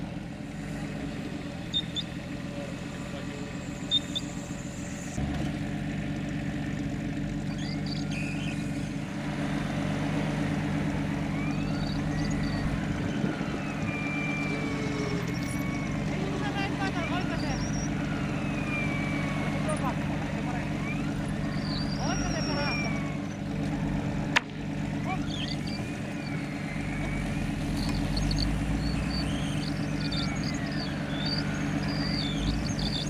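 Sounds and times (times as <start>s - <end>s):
off-road vehicle engine running: 0.0s - 33.0s.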